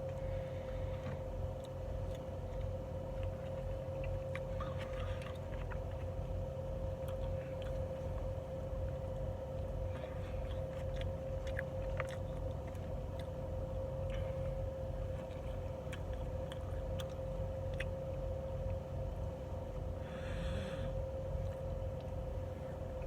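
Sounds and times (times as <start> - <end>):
person chewing and eating: 0.0 - 23.0
steady hum: 0.0 - 23.0.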